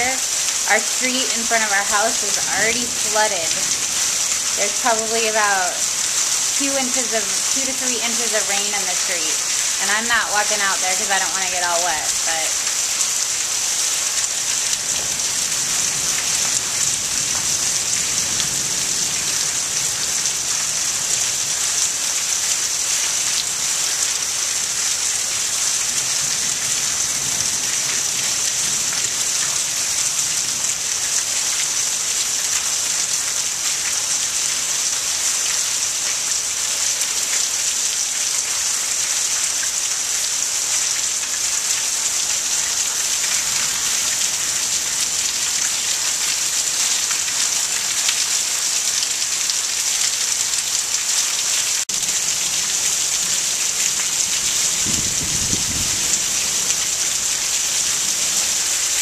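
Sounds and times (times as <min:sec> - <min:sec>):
heavy rain on flooded street: 0:00.0 - 0:59.0.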